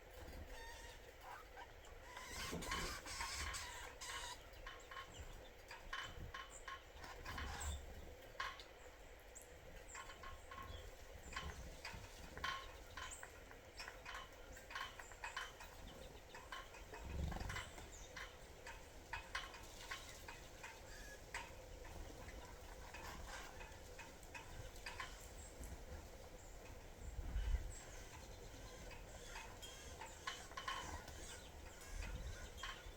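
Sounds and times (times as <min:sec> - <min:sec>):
birds pecking at feeder: 0:00.1 - 0:32.9.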